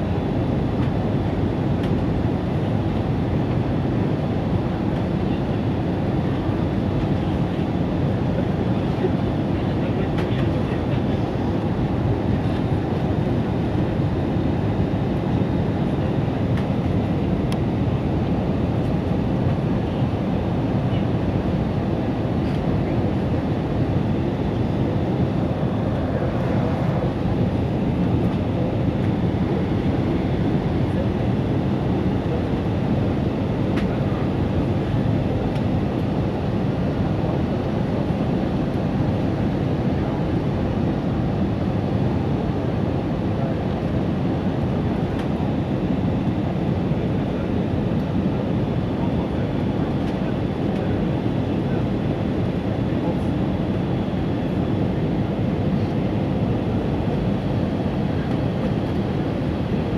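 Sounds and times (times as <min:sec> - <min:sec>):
airplane rumble in flight: 0:00.0 - 0:59.9.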